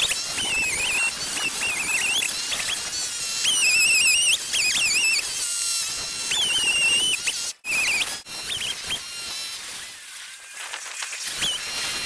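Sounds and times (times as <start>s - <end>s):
sped-up chainsaw whine: 0.0s - 12.0s.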